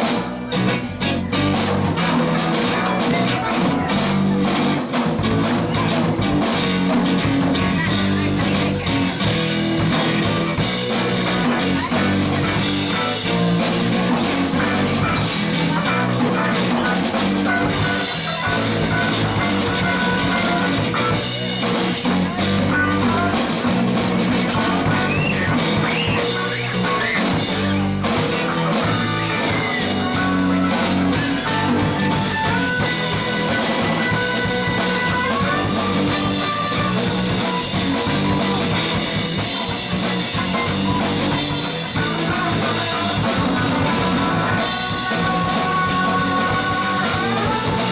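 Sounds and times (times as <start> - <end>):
live rock band playing: 0.0 - 47.9
rising guitar line: 0.0 - 47.9.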